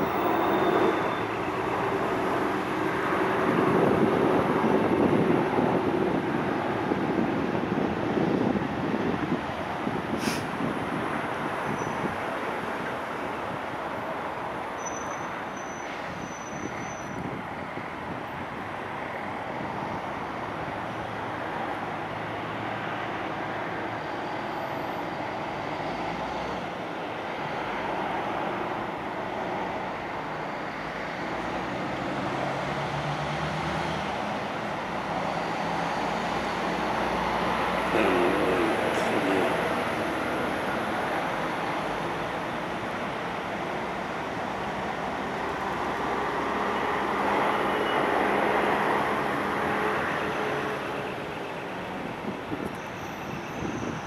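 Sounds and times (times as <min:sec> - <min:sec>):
distant traffic rumble: 0:00.0 - 0:54.0
vehicles passing: 0:00.0 - 0:54.0.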